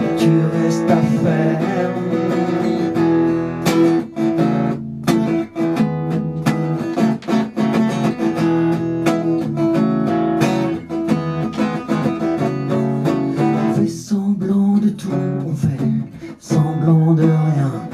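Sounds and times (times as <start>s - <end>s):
acoustic guitar strumming chords: 0.0s - 17.9s.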